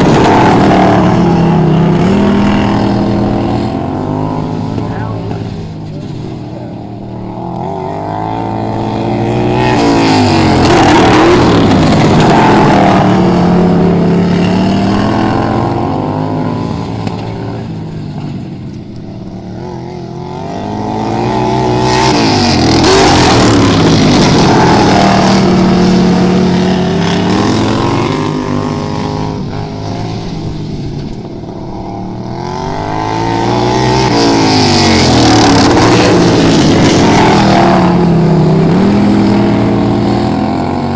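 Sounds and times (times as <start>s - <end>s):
lawnmower engines revving: 0.0s - 40.9s.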